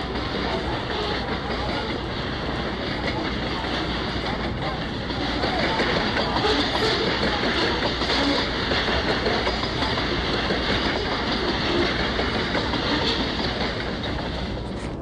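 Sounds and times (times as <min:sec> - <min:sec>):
train running on rails: 0:00.0 - 0:15.0.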